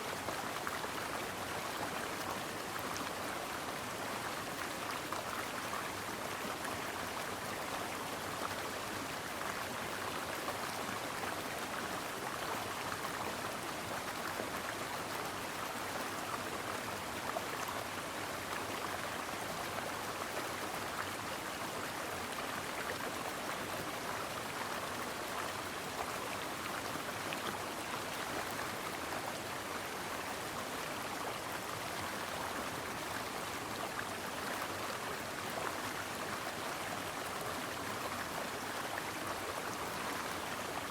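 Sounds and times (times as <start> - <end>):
stream water running over rocks: 0.1 - 40.9.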